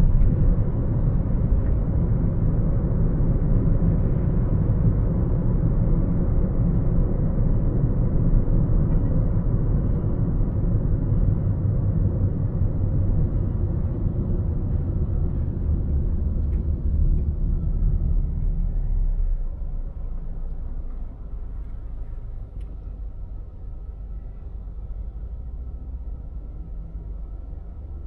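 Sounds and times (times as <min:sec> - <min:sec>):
car driving rumble: 0:00.0 - 0:28.0.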